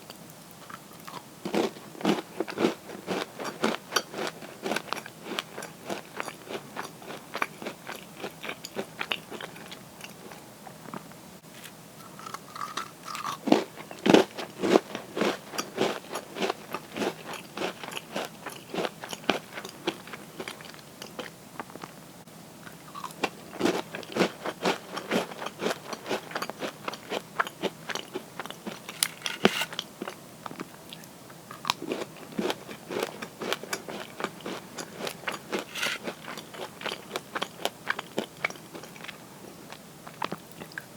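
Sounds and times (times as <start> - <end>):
crunchy cookie chewing: 0.1 - 11.1, 12.0 - 22.0, 22.6 - 40.9.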